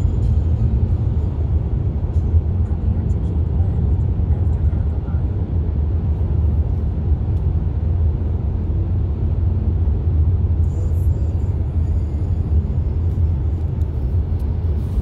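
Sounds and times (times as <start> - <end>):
road noise inside car: 0.0 - 15.0.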